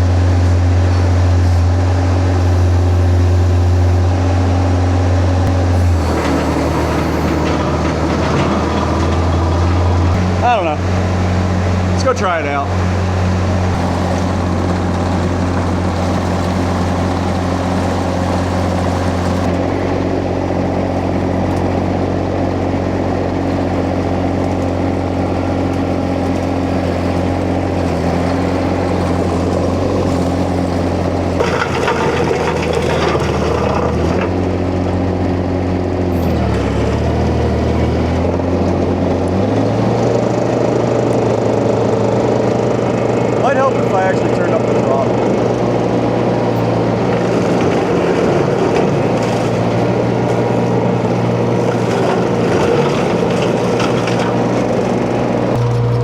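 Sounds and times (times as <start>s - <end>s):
flail mulcher running: 0.0s - 56.0s
mini skid steer engine running: 0.0s - 56.0s.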